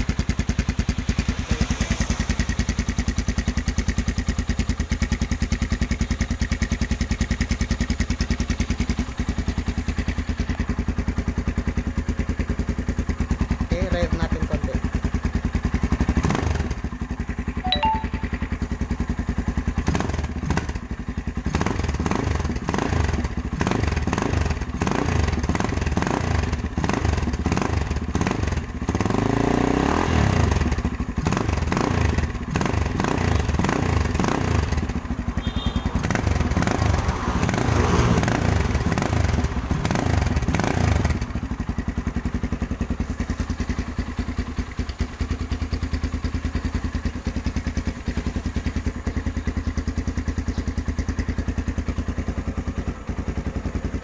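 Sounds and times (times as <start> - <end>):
motorcycle exhaust idling and revving: 0.0 - 54.0.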